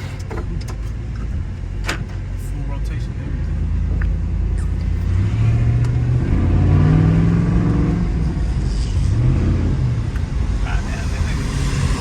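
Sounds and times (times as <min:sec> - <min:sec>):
low road rumble: 0:00.0 - 0:12.0
pickup engine accelerating: 0:00.0 - 0:12.0.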